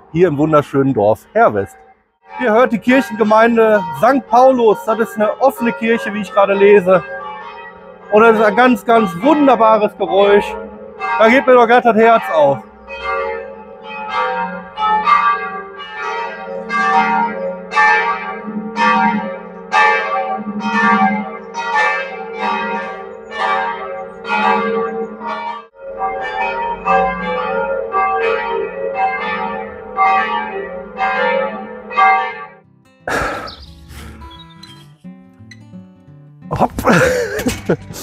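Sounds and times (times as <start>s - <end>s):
church bells ringing: 0.0s - 33.4s, 36.9s - 37.8s.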